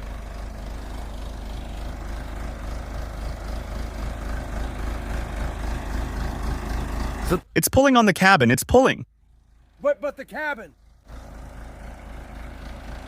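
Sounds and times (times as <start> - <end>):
backhoe diesel engine rumbling: 0.0 - 13.0.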